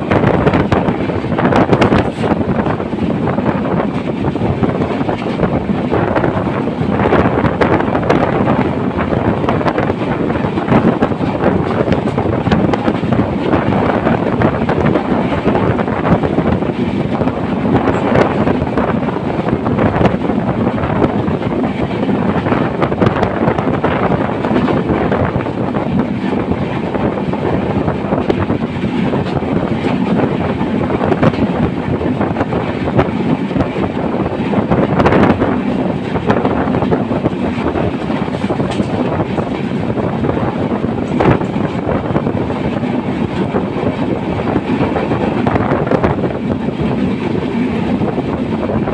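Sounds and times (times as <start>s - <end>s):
train rumbling on rails: 0.0s - 48.9s
wind buffeting microphone: 0.0s - 48.9s.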